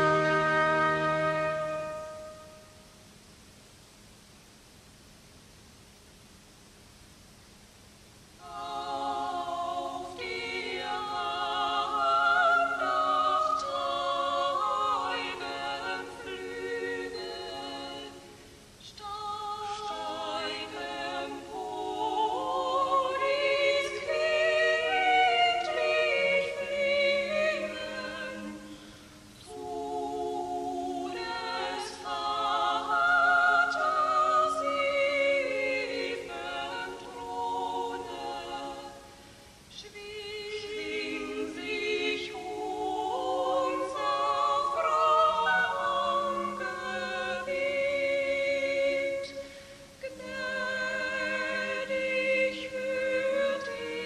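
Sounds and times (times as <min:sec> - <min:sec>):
choir singing: 0:00.0 - 0:02.7, 0:08.4 - 0:54.0.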